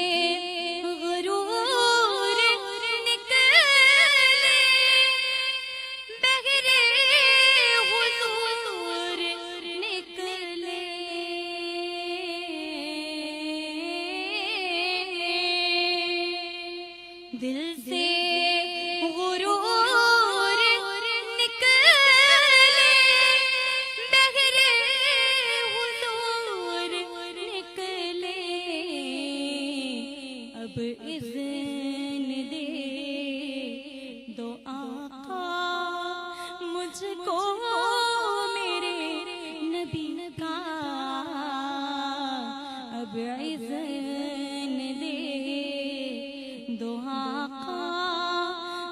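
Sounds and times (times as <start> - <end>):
women singing unaccompanied: 0.0 - 48.9.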